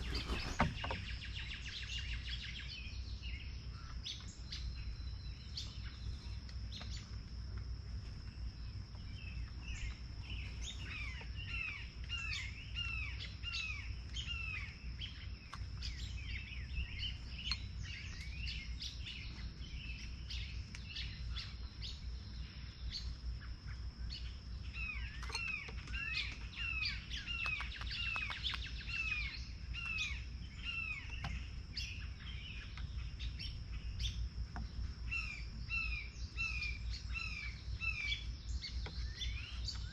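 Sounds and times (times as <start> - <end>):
low background rumble: 0.0 - 39.9
songbirds chirping: 0.0 - 39.9.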